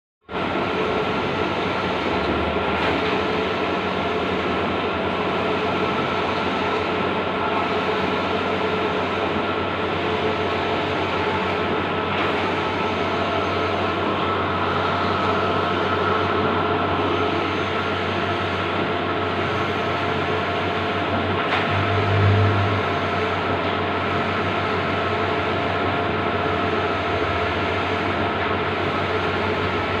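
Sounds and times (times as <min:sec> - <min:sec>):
printer humming and whirring: 0:00.3 - 0:30.0.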